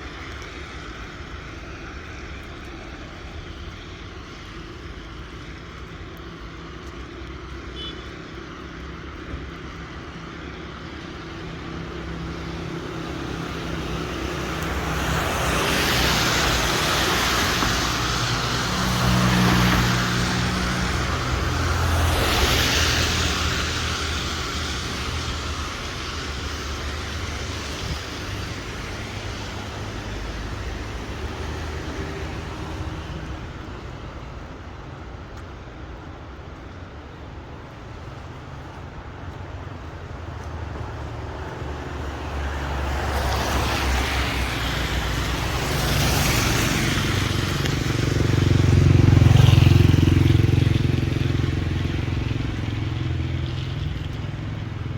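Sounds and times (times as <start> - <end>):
traffic on a wet street: 0.0 - 54.9.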